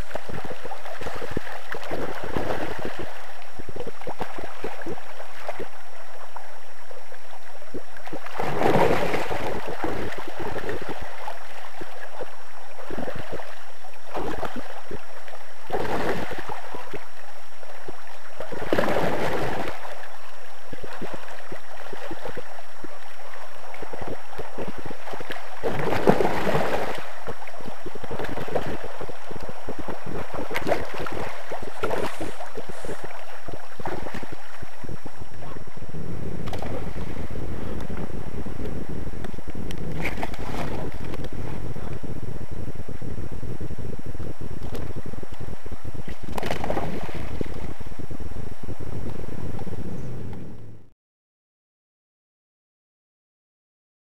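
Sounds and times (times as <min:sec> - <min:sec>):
river water over gravel: 0:00.0 - 0:50.6.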